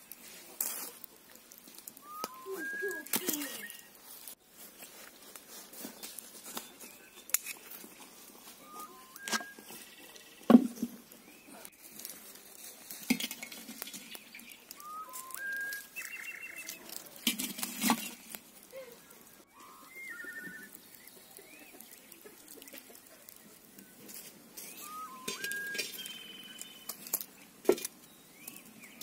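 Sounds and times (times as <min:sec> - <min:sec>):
birds chirping: 0:01.9 - 0:04.1, 0:05.2 - 0:29.0.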